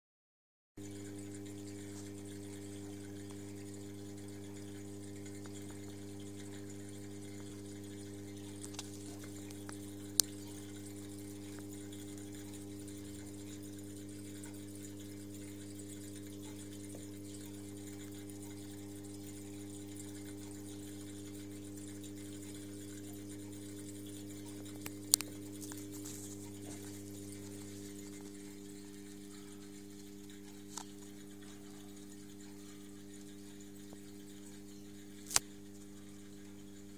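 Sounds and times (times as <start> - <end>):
aquarium pump humming: 0.8 - 36.9.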